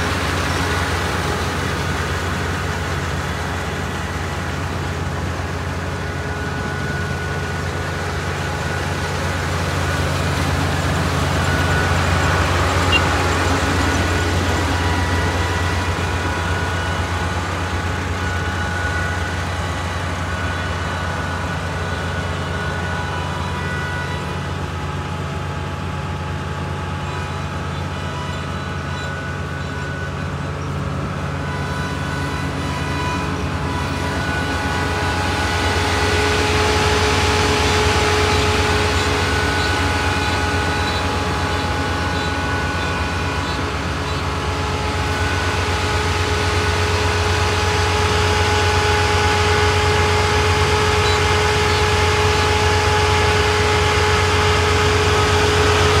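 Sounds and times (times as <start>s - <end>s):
diesel engine hum: 0.0s - 56.0s
machinery whirring: 0.0s - 56.0s.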